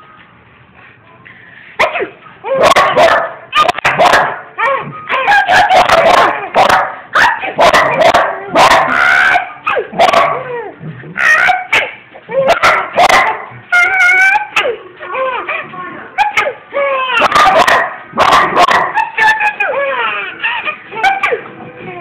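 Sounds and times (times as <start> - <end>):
dog yipping and whining: 1.9 - 22.0.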